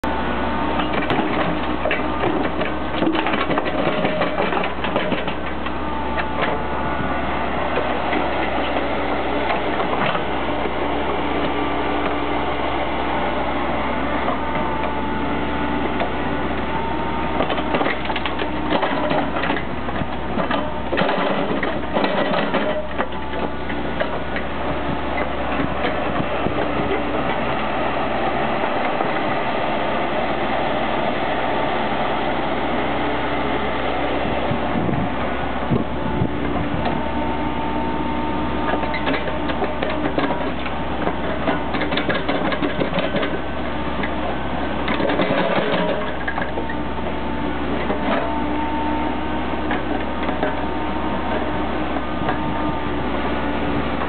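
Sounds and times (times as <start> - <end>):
excavator diesel engine: 0.0 - 54.0
hydraulic whine: 0.0 - 54.0.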